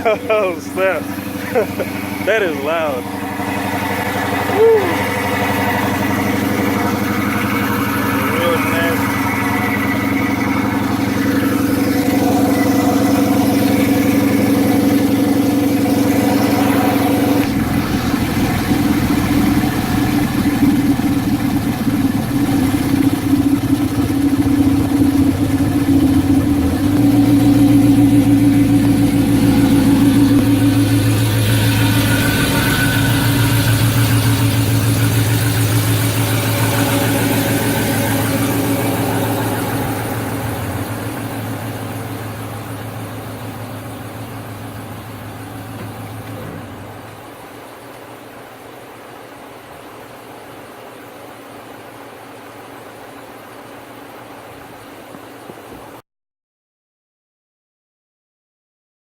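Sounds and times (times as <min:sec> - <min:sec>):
loud car engine exhaust: 0:00.0 - 0:47.8.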